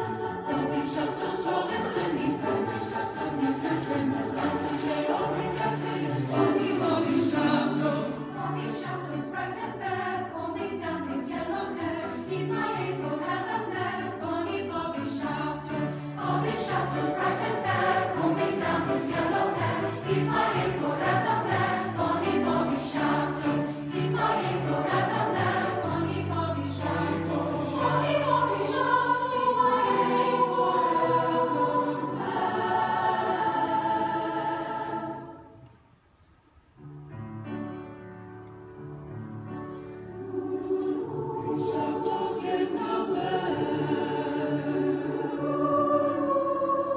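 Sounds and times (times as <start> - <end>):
choir singing in parts: 0.0 - 35.8, 39.9 - 46.9.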